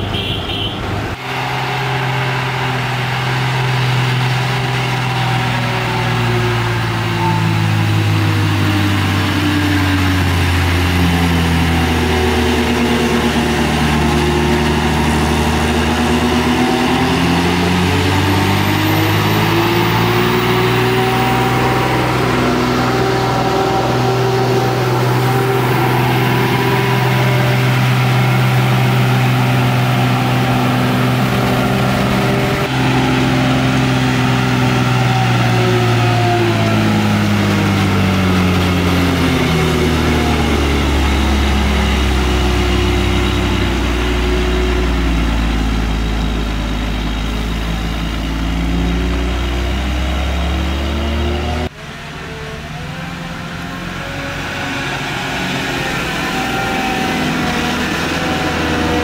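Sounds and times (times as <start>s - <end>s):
lorry diesel engine labouring: 0.0s - 59.0s.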